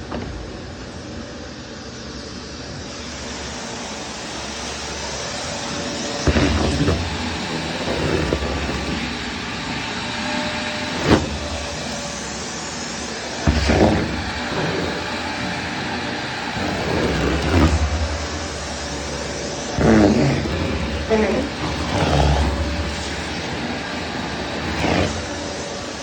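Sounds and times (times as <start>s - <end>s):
vacuum cleaner motor running: 0.0s - 26.0s
vacuum cleaner bumps: 4.5s - 26.0s.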